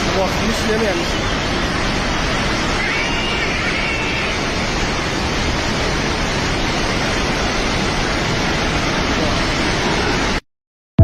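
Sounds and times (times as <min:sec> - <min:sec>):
floodwater roaring in river: 0:00.0 - 0:10.4.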